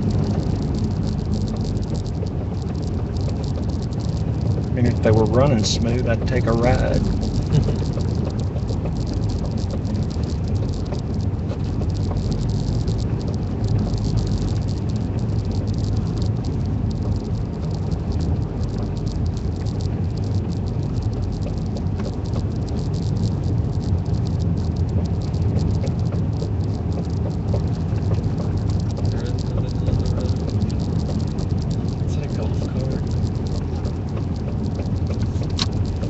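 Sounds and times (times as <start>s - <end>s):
road rumble inside vehicle: 0.0s - 36.0s
tire chains rattling: 0.0s - 36.0s.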